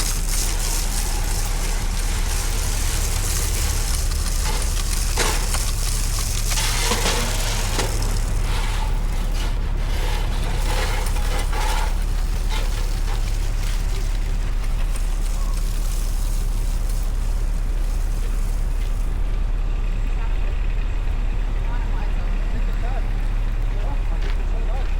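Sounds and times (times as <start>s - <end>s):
hiss of passing vehicles: 0.0s - 20.2s
traffic engine rumble: 0.0s - 24.9s.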